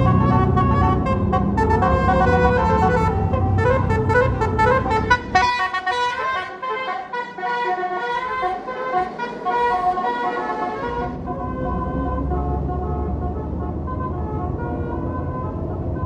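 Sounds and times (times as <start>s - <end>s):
heavy engine rumble: 0.0s - 16.0s
multi-tone musical bus horn: 0.0s - 16.0s.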